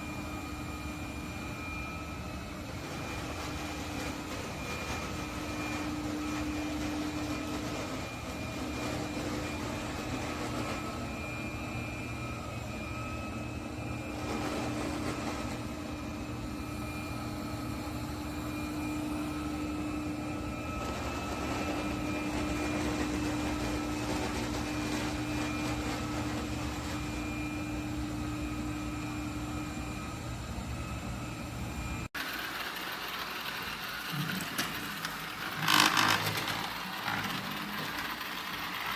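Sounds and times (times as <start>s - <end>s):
robot vacuum motor drone: 0.0s - 38.9s.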